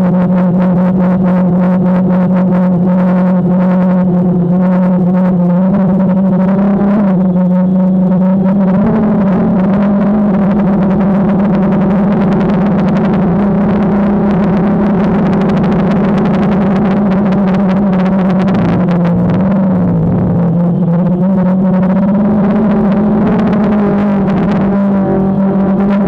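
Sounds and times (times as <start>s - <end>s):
drone propellers humming: 0.0s - 26.0s.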